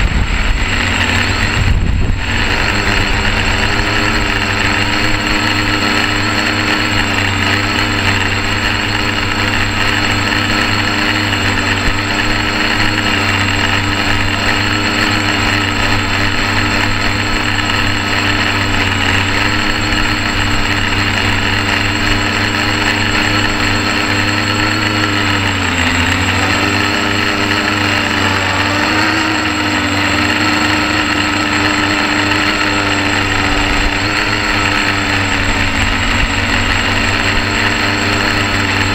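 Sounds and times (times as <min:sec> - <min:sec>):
drone propellers whirring: 0:00.0 - 0:38.9.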